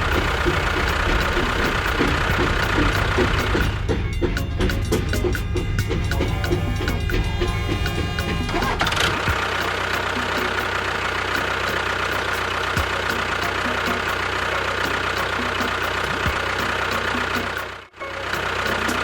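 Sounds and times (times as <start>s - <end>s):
engine idling with ticking knock: 0.0s - 19.0s.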